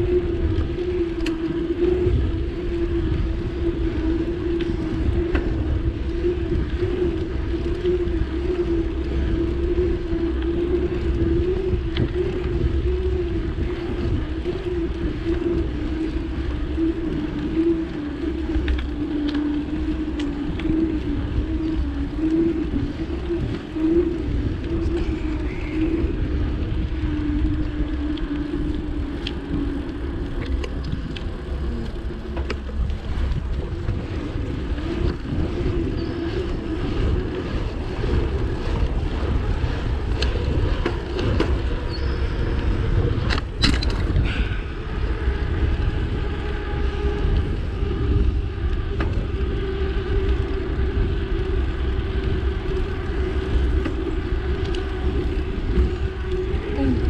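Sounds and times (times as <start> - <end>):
bicycle tyres rolling on pavement: 0.0 - 57.0
wind buffeting microphone: 0.0 - 57.0.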